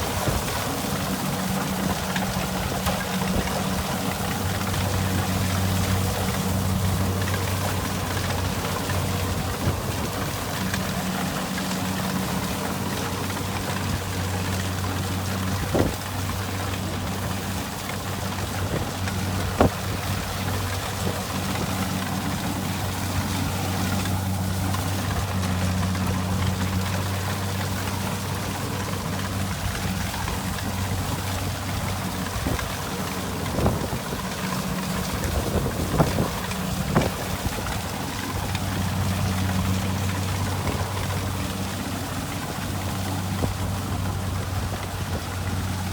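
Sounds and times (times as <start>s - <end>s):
combine harvester engine drone: 0.0s - 45.9s.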